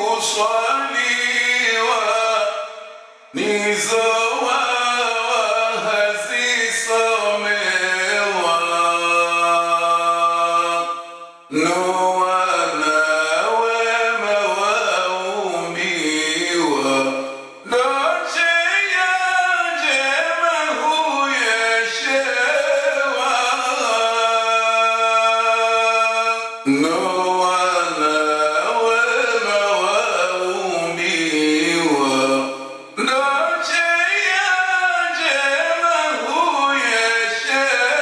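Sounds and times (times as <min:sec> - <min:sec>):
man chanting: 0:00.0 - 0:38.0.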